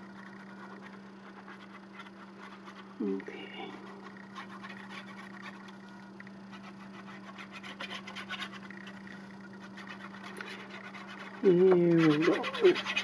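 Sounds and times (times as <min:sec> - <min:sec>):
paper scratching and rustling: 0:00.0 - 0:13.0.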